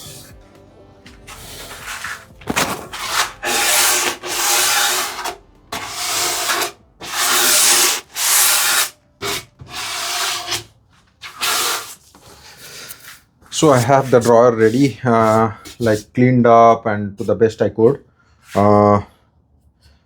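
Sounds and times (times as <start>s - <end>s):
hand tool stroking wood: 0.0s - 16.2s, 17.2s - 19.0s.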